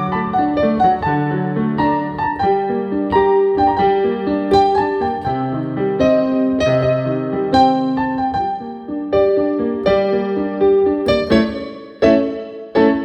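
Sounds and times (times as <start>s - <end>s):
piano keyboard melody: 0.0s - 13.0s.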